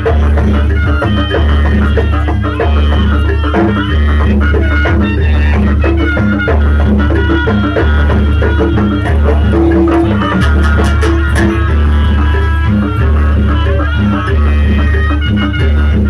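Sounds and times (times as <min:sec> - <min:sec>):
drums and percussion: 0:00.0 - 0:16.0
heavy bass beat: 0:00.0 - 0:16.0
loud amplified live music: 0:00.0 - 0:16.0.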